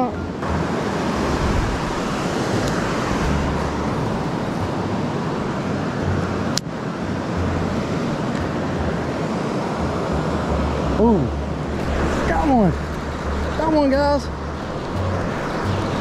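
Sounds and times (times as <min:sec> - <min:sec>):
water rushing over rocks: 0:00.0 - 0:16.0
wind buffeting microphone: 0:00.0 - 0:16.0.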